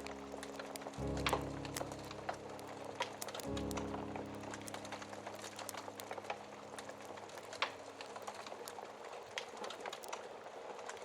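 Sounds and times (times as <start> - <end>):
soft background music: 0.0 - 10.8
wood fire crackling: 0.0 - 11.0.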